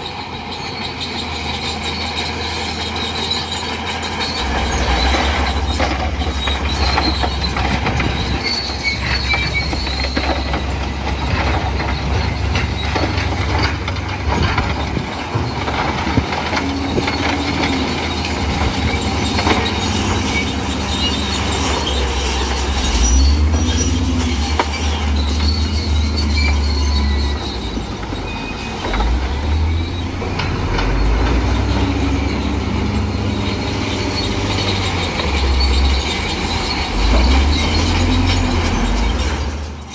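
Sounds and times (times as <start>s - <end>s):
bulldozer diesel engine rumble: 0.0s - 39.9s
steel tracks squealing and clanking: 0.0s - 39.9s.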